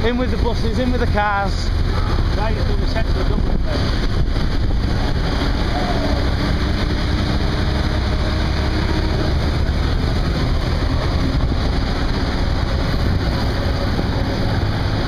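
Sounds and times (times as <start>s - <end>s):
low rumble of vehicles: 0.0s - 15.0s
road noise: 0.0s - 15.0s
wind on microphone: 1.7s - 15.0s.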